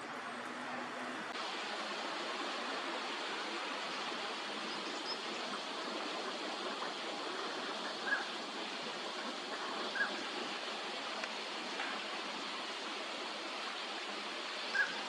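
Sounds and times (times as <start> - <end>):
steady rushing background noise: 0.0 - 15.0.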